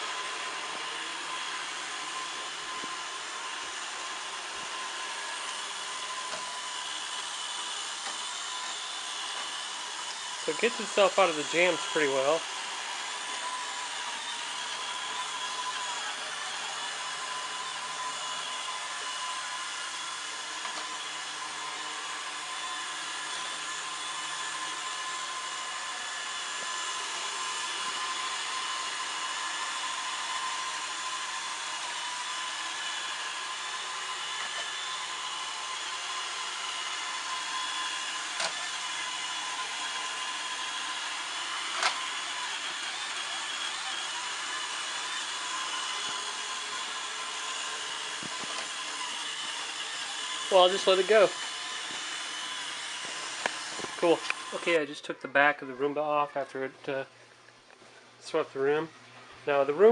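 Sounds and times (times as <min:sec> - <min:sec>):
high motor whines: 0:00.0 - 0:56.4
robot vacuum whirring: 0:00.0 - 0:57.0.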